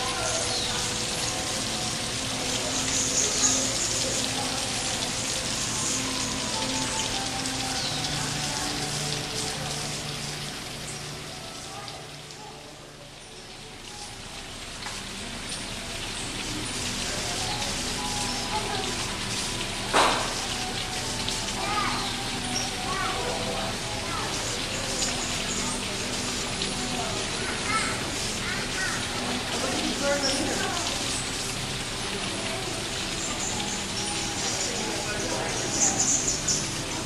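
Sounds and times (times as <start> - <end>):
soft sustained musical tones: 0.0 - 28.4, 29.0 - 37.0
running water rushing: 0.0 - 37.0.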